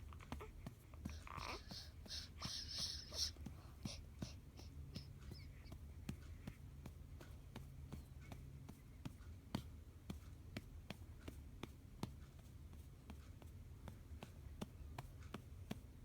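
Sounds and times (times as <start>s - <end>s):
soft pats on baby's back: 0.0s - 16.0s.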